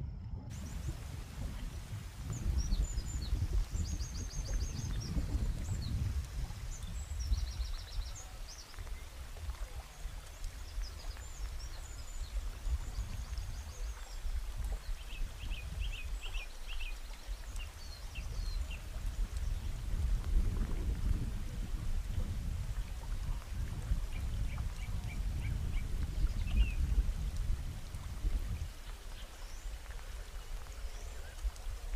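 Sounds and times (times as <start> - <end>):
wind rumbling on microphone: 0.0 - 31.9.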